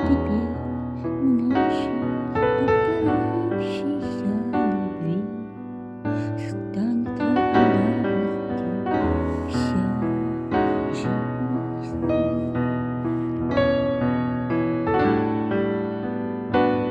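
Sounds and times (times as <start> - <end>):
slow piano chords: 0.0 - 16.9.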